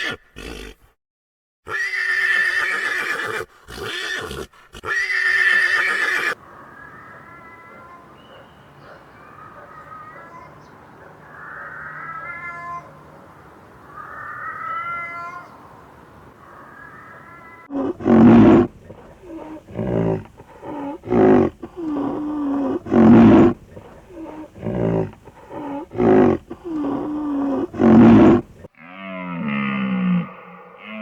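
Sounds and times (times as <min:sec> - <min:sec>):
animal calling: 0:01.7 - 0:31.0.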